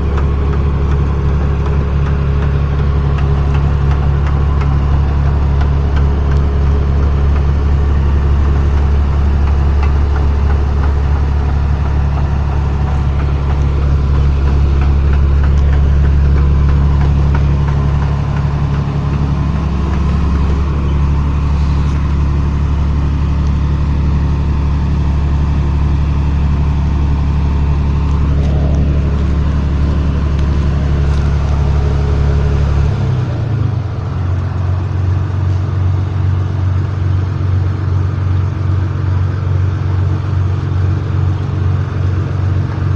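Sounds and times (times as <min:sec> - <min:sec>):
harvester diesel engine running: 0:00.0 - 0:42.9.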